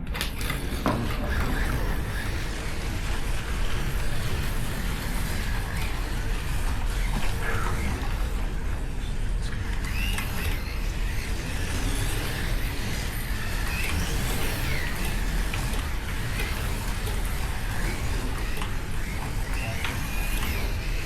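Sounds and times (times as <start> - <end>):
slot car motors whining: 0.0 - 21.0.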